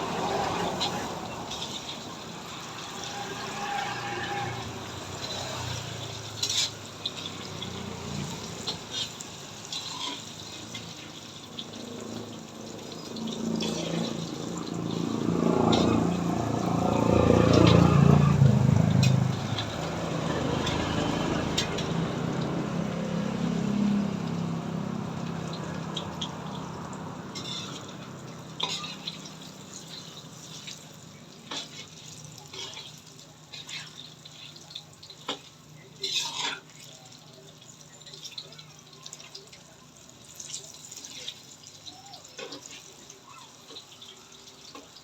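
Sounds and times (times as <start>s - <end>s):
food frying in oil: 0.0s - 45.0s
oil popping and crackling: 0.0s - 45.0s.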